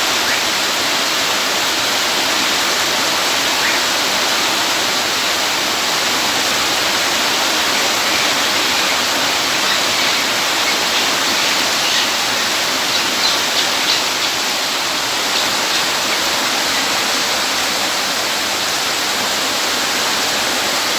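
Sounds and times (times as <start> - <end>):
rushing water: 0.0 - 20.9.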